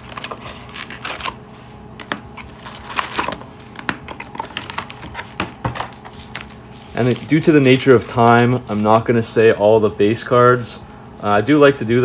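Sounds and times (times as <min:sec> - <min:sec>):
card wrappers crinkling: 0:00.0 - 0:12.0.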